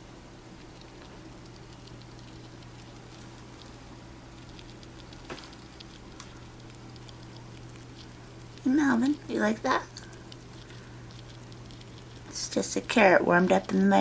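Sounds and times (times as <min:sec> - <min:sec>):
rats chewing clicks: 0:00.4 - 0:14.0.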